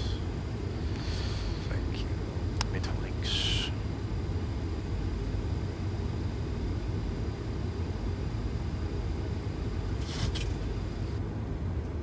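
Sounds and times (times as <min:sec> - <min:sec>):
airflow and aircraft engine noise: 0:00.0 - 0:12.0.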